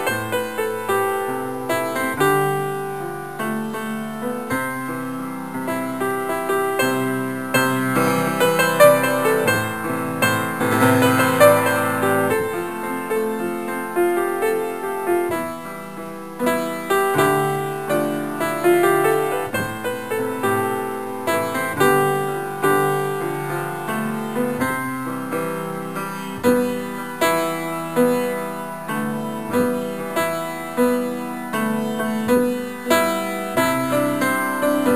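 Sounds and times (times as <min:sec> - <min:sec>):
piano music: 0:00.0 - 0:34.9.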